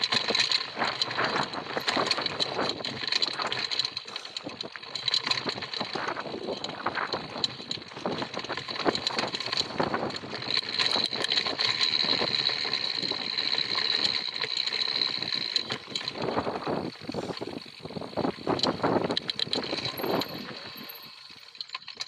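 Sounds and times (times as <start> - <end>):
bike tyres rumbling over dirt: 0.0 - 21.7
bike rattles and knocks: 0.0 - 22.0.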